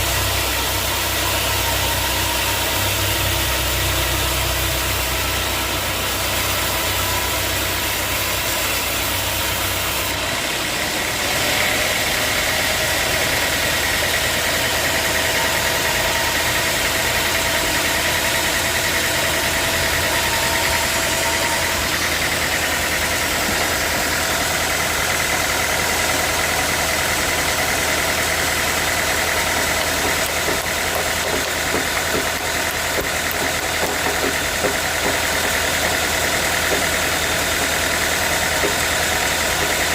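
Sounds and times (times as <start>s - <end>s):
band sawmill running: 0.0s - 39.9s
engine drone: 0.0s - 39.9s
high steady whine: 0.0s - 39.9s.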